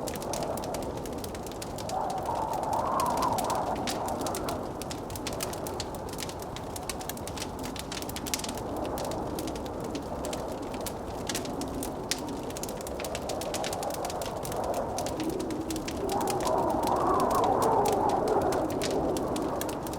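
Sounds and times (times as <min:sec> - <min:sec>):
blizzard wind rushing: 0:00.0 - 0:19.9
log fire crackling and popping: 0:00.0 - 0:19.9.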